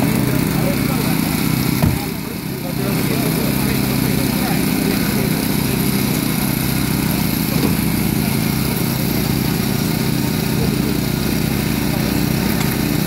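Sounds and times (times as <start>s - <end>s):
small engine running steadily: 0.0s - 13.0s.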